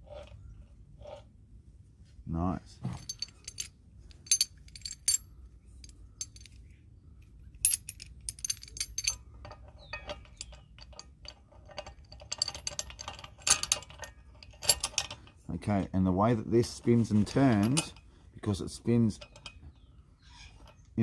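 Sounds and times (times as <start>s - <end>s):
metal chain links clinking and rattling: 0.0s - 1.3s, 2.8s - 6.7s, 7.5s - 15.5s, 16.6s - 21.0s.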